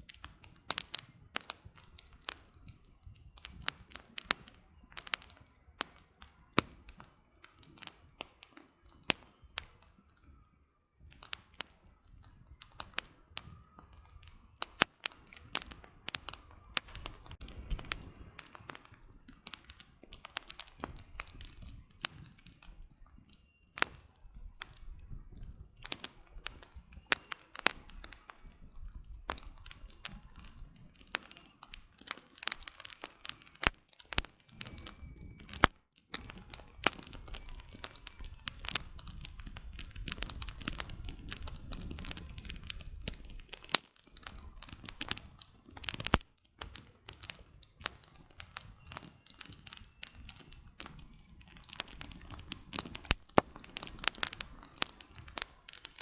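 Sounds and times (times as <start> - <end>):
logs popping in campfire: 0.0 - 56.0
low rumble of fire: 0.0 - 56.0.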